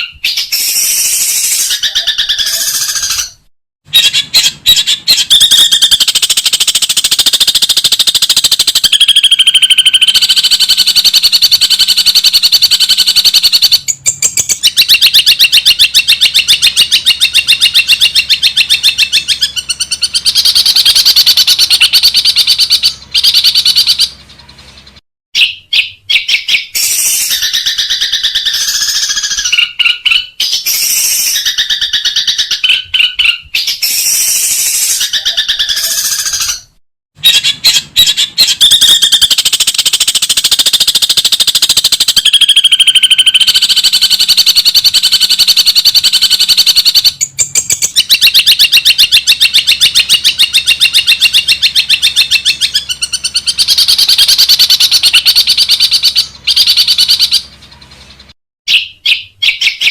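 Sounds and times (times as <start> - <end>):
bird chattering song: 0.0 - 59.9.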